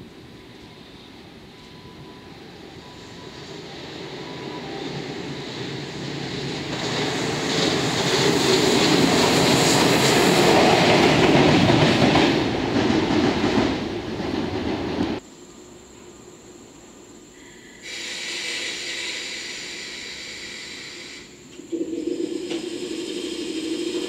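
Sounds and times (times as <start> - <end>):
electric locomotive passing on rails: 0.0 - 24.0.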